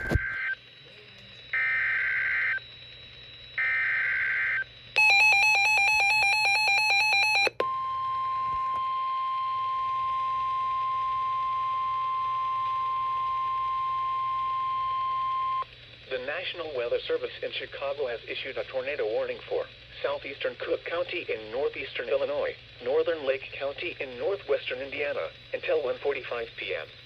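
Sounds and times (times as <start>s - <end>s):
steady warning tone: 0.0s - 26.8s.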